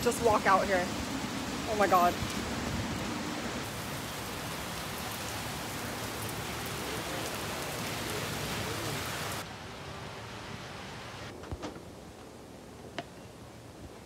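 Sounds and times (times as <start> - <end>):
heavy rain on pavement: 0.0 - 11.3.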